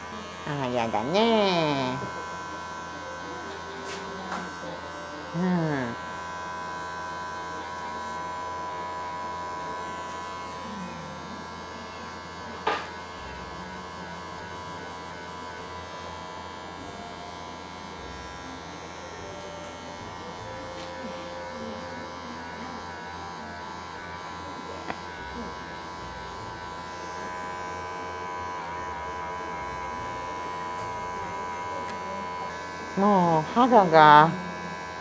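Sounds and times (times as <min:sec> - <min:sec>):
electric clippers humming: 0:00.0 - 0:35.0.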